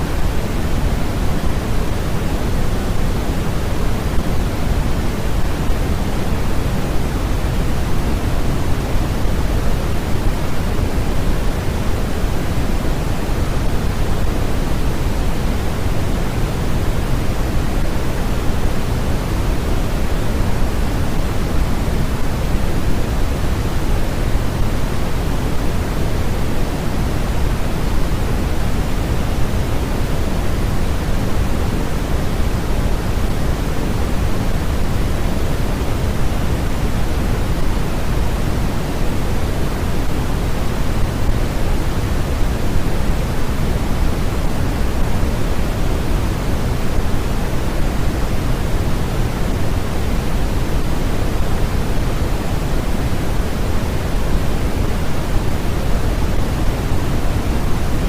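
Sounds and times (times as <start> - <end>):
steady synthetic pink noise: 0.0 - 58.0.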